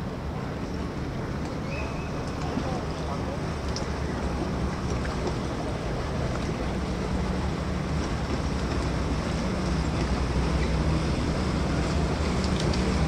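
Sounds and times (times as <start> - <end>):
boat engine running: 0.0 - 13.0
water noise: 0.0 - 13.0.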